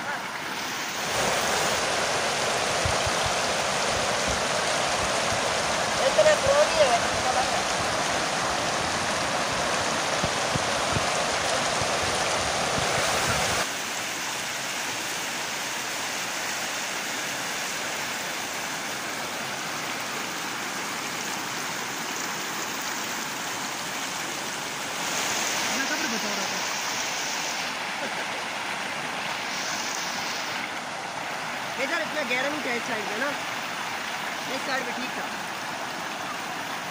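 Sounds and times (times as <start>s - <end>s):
river rushing over rocks: 0.0s - 36.9s.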